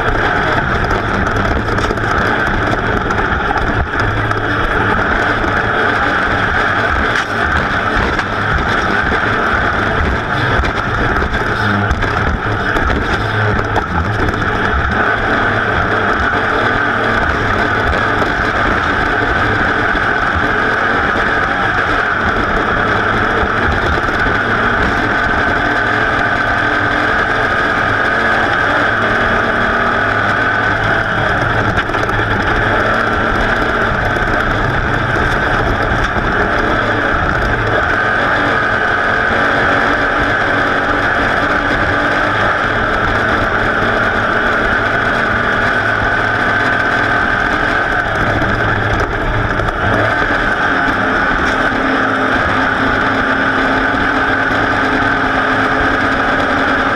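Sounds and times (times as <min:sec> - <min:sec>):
racing engine at high revs: 0:00.0 - 0:56.9.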